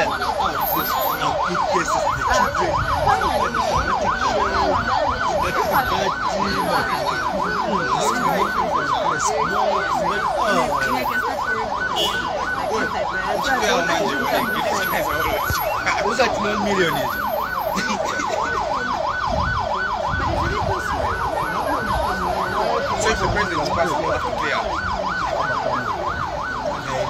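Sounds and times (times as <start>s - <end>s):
crowd chatter: 0.0s - 27.0s
siren yelping: 0.0s - 27.0s.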